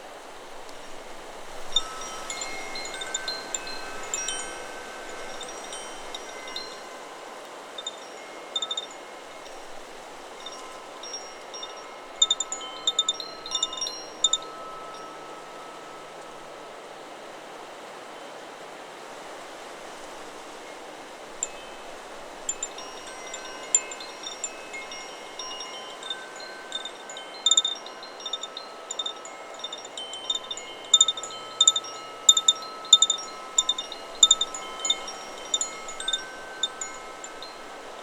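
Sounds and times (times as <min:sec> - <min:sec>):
wind chime ringing: 0:00.0 - 0:17.2, 0:20.2 - 0:38.0
wind hissing: 0:00.0 - 0:38.0.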